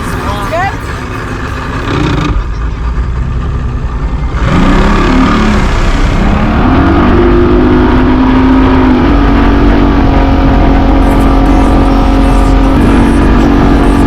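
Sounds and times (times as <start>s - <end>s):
watercraft engine revving: 0.0s - 14.0s.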